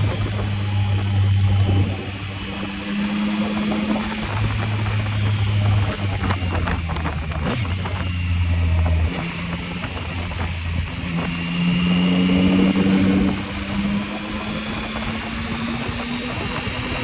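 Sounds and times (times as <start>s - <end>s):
motorcycle engine under way: 0.0s - 17.0s
wind rush: 0.0s - 17.0s.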